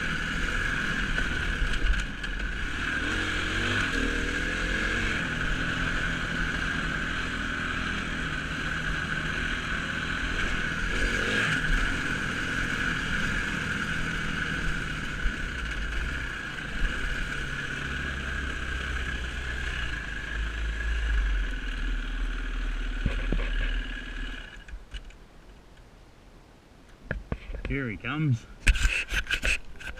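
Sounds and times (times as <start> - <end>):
dirt bike engine: 0.0 - 25.2.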